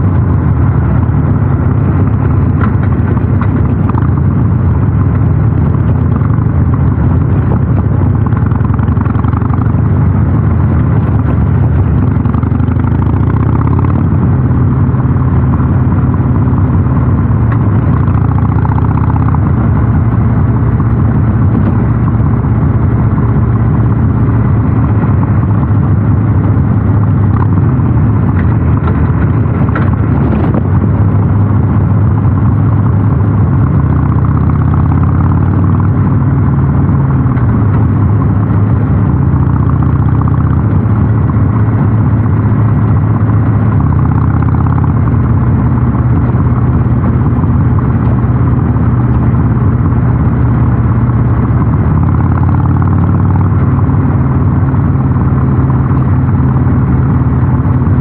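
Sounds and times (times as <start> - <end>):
motorcycle exhaust note: 0.0 - 58.0.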